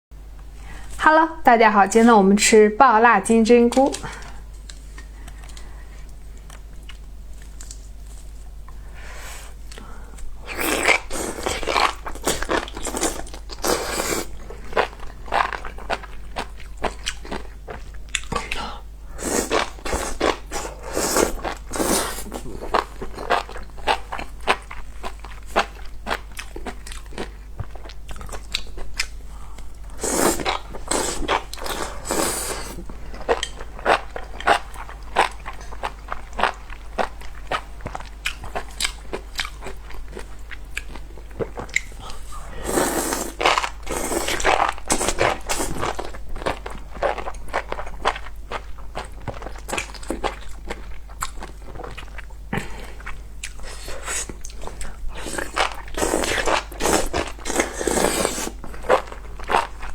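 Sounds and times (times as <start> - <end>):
close-miked eating and chewing: 3.6 - 59.9.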